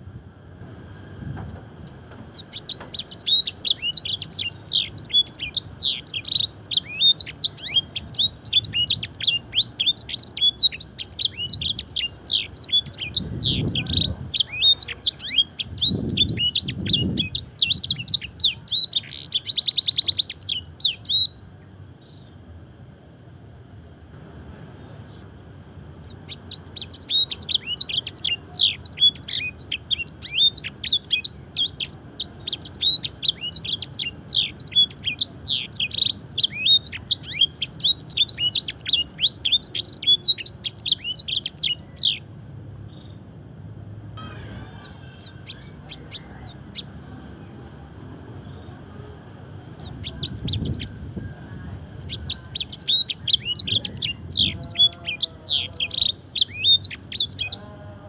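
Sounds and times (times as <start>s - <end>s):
canary singing trills: 2.2s - 22.5s, 25.9s - 58.0s.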